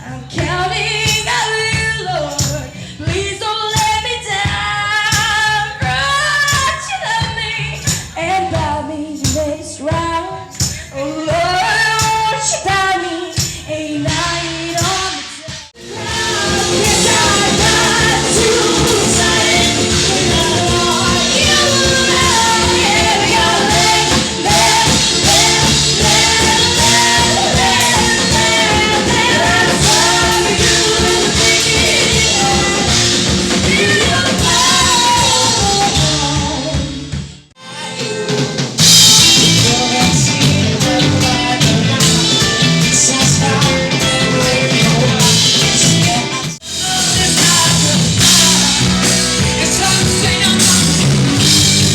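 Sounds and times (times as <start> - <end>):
full band playing with vocals: 0.0 - 51.9.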